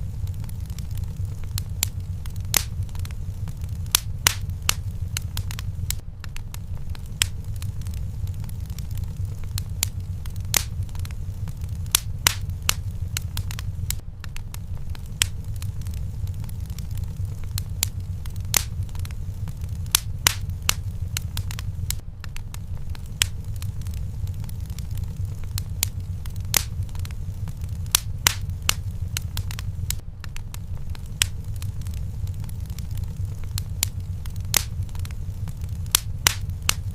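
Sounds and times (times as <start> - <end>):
low rumble of flames: 0.0 - 36.9
wood fire crackling: 0.0 - 36.9.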